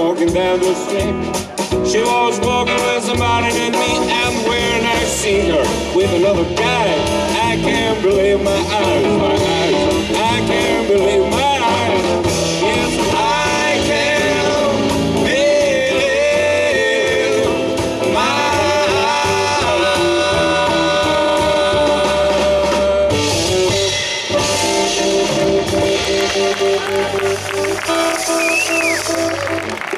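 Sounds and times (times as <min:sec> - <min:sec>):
blues band playing: 0:00.0 - 0:29.9.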